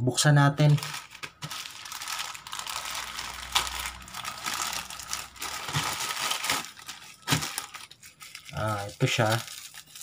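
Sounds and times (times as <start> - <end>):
plastic packaging crinkling: 0.5 - 10.0.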